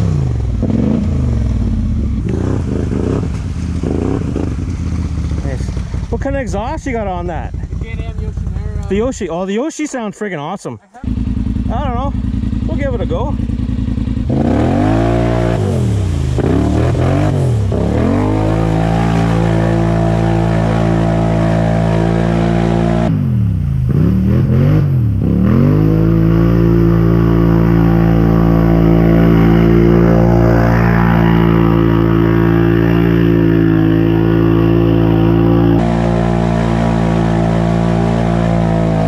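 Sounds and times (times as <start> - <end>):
atv engine revving: 0.0 - 9.4, 11.0 - 39.0.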